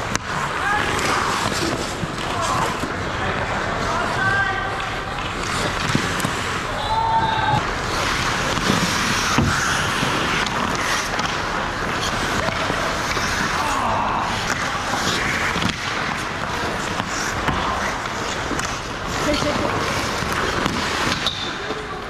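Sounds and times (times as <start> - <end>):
hockey sticks and puck clacking: 0.0 - 22.0
skates scraping on ice: 0.0 - 22.0.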